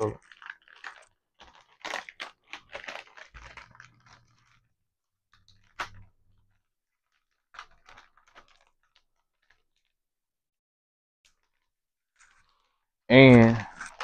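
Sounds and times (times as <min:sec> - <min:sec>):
plastic packet crinkling: 0:00.0 - 0:04.7, 0:05.3 - 0:10.0, 0:11.3 - 0:12.8, 0:13.4 - 0:14.0.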